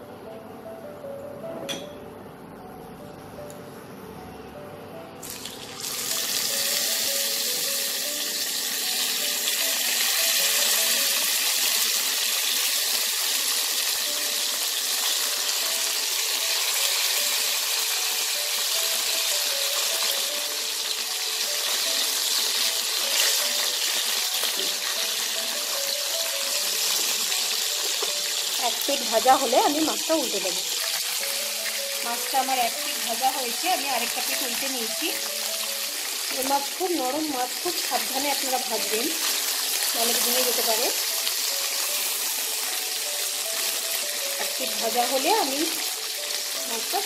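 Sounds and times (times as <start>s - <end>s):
fish sizzling in hot oil: 5.2s - 47.0s.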